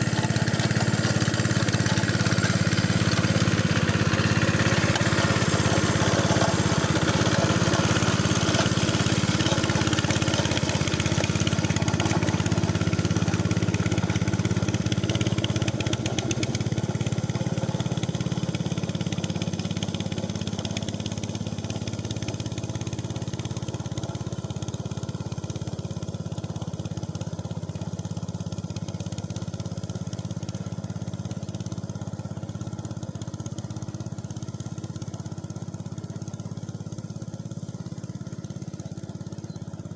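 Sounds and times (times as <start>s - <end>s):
hand tractor engine running: 0.0s - 39.9s.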